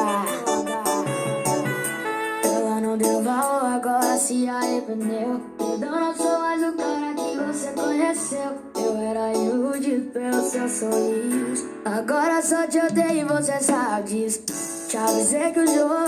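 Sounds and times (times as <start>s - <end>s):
pop song through small speaker: 0.0s - 16.0s.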